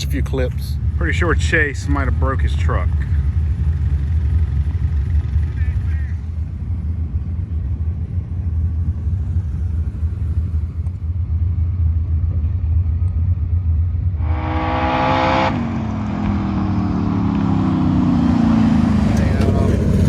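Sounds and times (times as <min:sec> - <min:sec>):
car engine revving: 0:00.0 - 0:11.1, 0:14.0 - 0:20.0
low engine rumble: 0:00.0 - 0:20.0.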